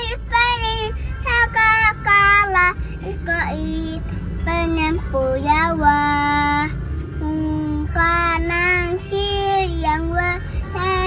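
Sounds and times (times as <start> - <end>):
car cabin rumble: 0.0 - 11.0
girl singing: 0.0 - 11.0.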